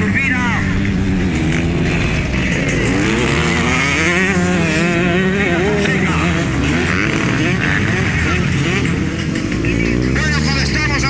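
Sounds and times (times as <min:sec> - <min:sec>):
low engine drone: 0:00.0 - 0:10.9
motorcycle engines revving: 0:00.0 - 0:11.0.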